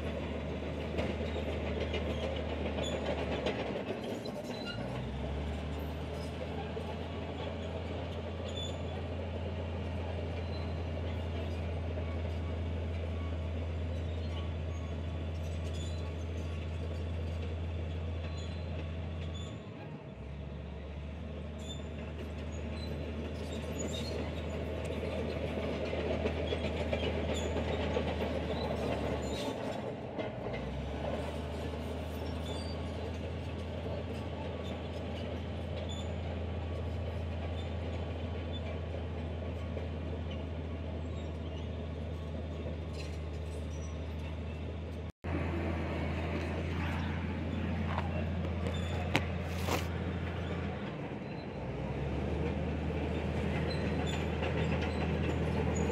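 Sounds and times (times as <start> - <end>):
steel tracks clattering: 0.0 - 20.3, 21.2 - 55.9
bulldozer engine hum: 0.0 - 55.9.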